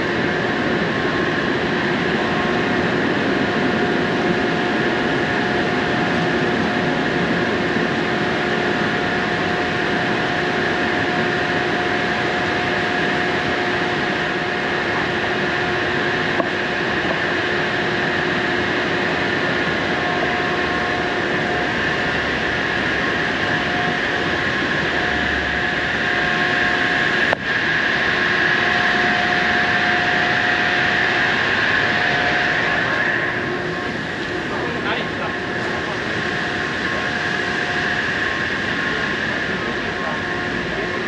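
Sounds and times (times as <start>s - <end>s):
construction machinery drone: 0.0s - 41.0s.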